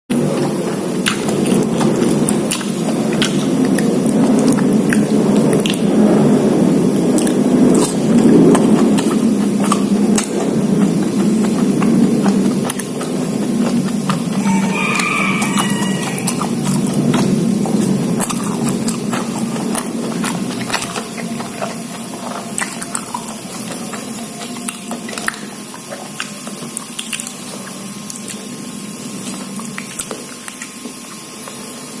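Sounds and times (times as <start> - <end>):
wet chewing and mouth smacking: 0.3 - 28.4.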